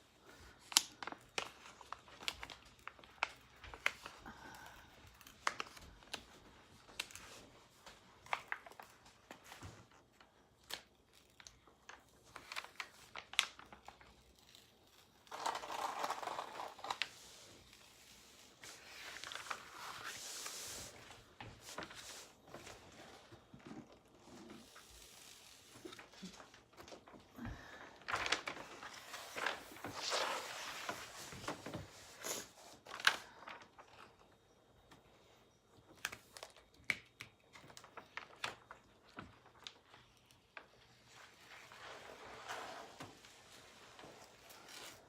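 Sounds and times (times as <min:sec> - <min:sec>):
paper packaging rustling: 0:00.3 - 0:34.5, 0:35.9 - 0:45.0.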